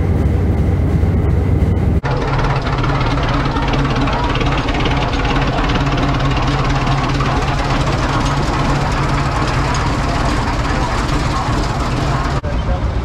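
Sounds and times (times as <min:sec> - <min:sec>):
tractor engine running: 0:00.0 - 0:12.7.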